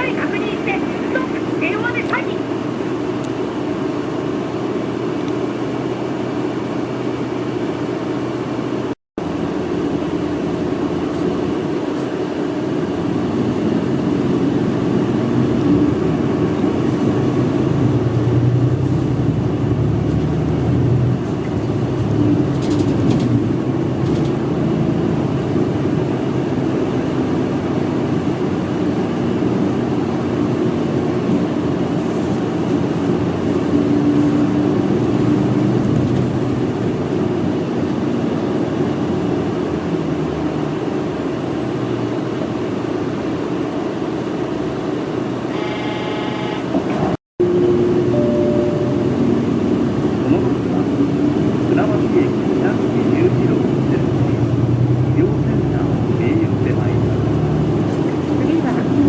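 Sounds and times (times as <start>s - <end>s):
bus engine: 0.0s - 59.0s
road noise: 0.0s - 59.0s.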